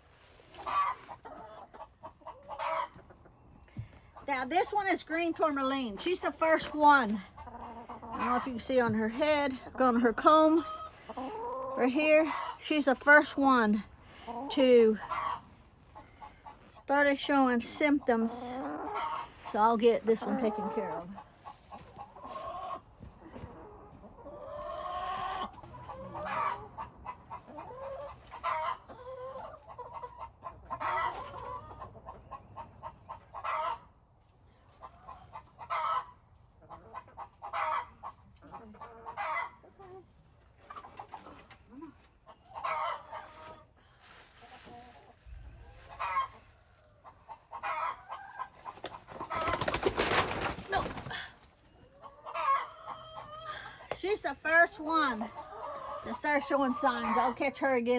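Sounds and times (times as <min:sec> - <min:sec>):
chickens clucking: 0:00.0 - 0:57.9
chickens scuffling: 0:00.0 - 0:57.9.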